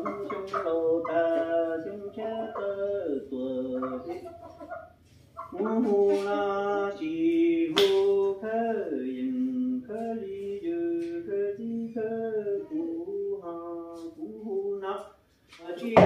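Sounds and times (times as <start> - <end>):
person singing slow melody: 0.0 - 4.4, 5.5 - 16.0.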